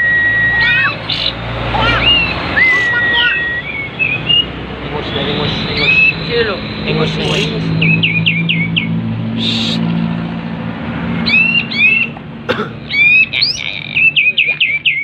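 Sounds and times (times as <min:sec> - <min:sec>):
songbird whistling song: 0:00.0 - 0:09.8, 0:11.2 - 0:12.2, 0:12.9 - 0:15.0.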